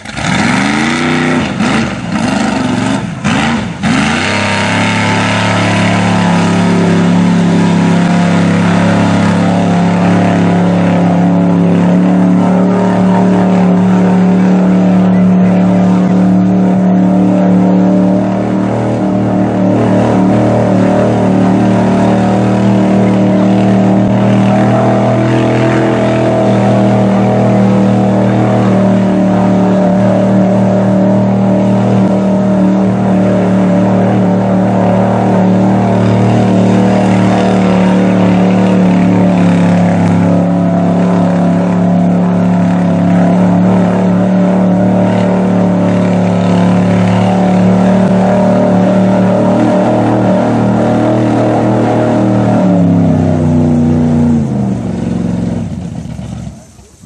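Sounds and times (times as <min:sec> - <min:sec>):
truck churning through mud: 0:00.0 - 0:57.0
truck engine revving hard: 0:00.0 - 0:57.0.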